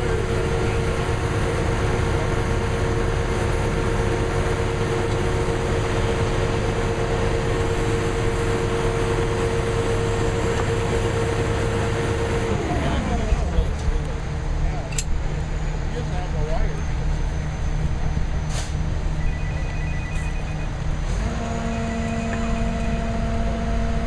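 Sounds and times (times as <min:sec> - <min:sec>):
crane engine whining: 0:00.0 - 0:24.0.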